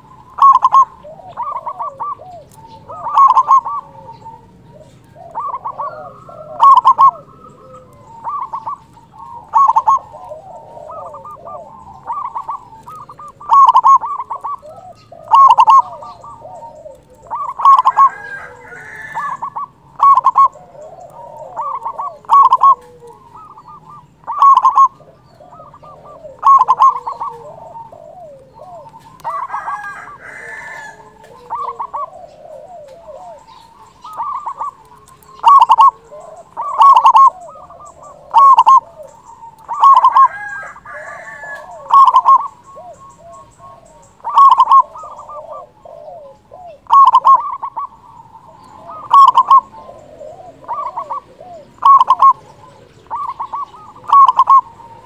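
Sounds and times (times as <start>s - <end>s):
dove cooing song: 0.0s - 55.0s
soft bird chirps: 0.0s - 55.0s.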